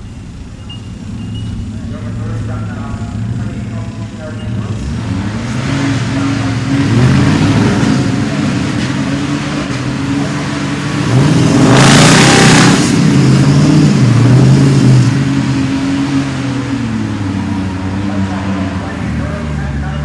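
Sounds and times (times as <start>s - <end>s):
loud rushing noise: 0.0s - 19.6s
truck engine revving: 0.0s - 20.0s.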